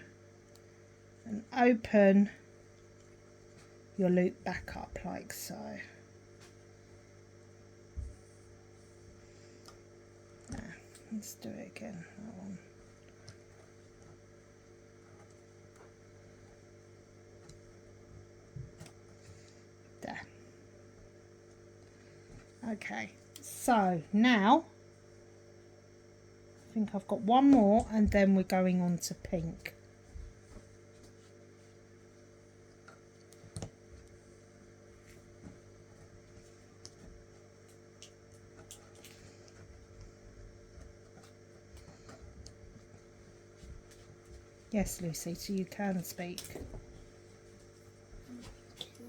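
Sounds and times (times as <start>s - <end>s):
faint electrical hum: 0.0s - 49.0s.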